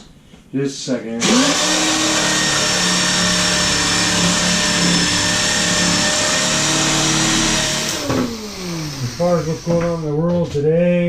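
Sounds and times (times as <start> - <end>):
power tool motor running: 1.2 - 10.2.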